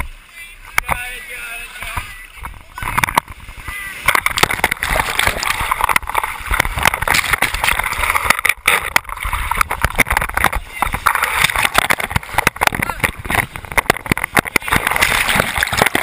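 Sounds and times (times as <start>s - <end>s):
surf crashing over rocks: 0.0s - 16.0s.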